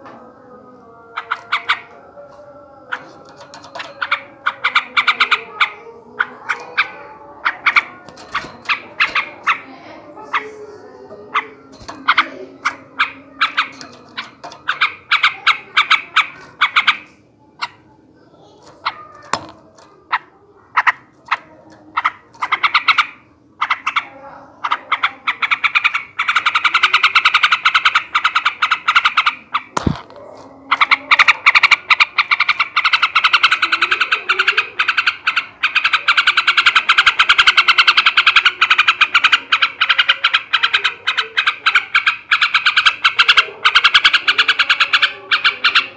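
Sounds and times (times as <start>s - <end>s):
bulbul chattering trills: 0.7s - 45.9s.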